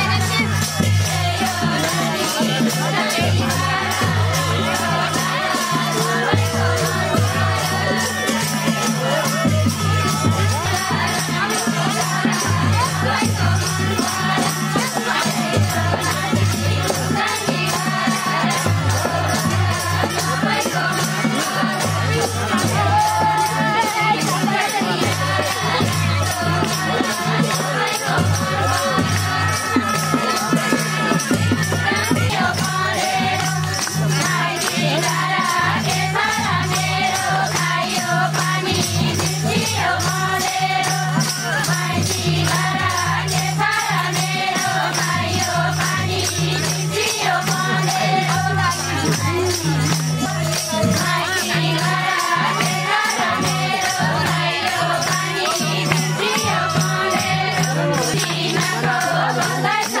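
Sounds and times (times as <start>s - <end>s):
jingling shaken percussion: 0.0s - 60.0s
voices singing folk song: 0.0s - 60.0s.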